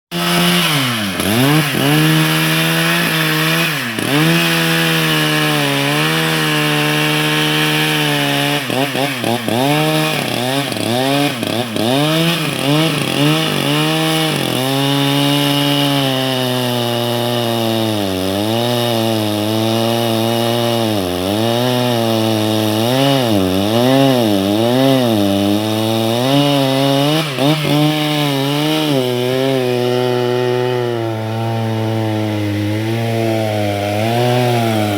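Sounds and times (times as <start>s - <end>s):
chainsaw cutting tree: 0.1s - 34.9s.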